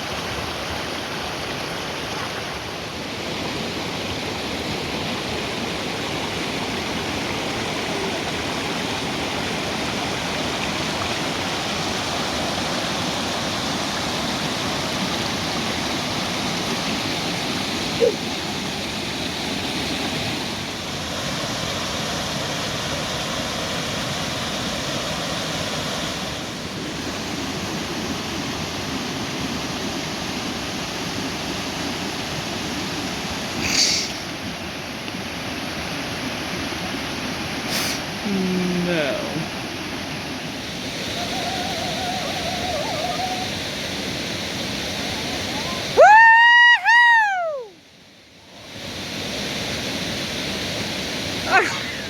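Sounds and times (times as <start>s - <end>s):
waterfall rushing: 0.0s - 47.8s, 48.6s - 52.0s.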